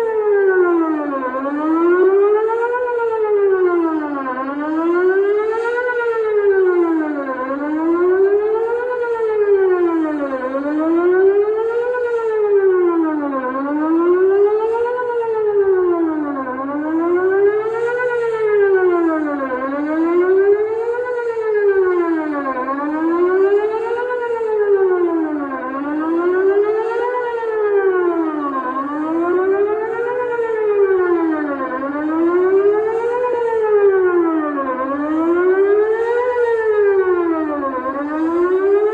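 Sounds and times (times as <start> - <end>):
warning siren wailing: 0.0 - 38.9.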